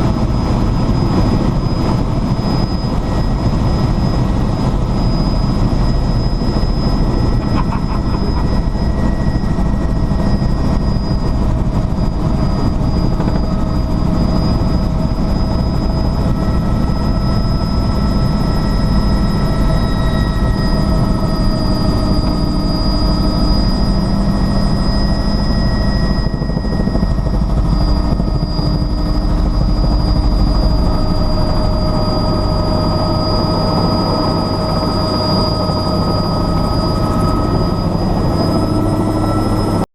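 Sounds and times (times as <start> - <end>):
helicopter rotor and engine rumble: 0.0 - 39.9
high whine: 0.0 - 39.9.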